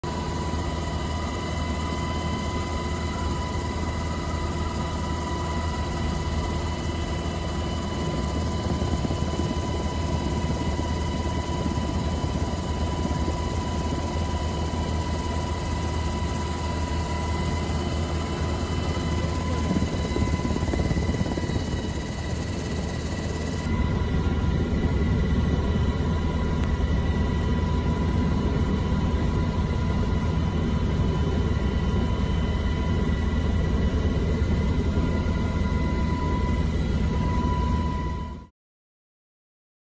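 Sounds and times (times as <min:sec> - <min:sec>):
constant high whine: 0:00.0 - 0:38.5
helicopter rotor and engine drone: 0:00.0 - 0:38.5.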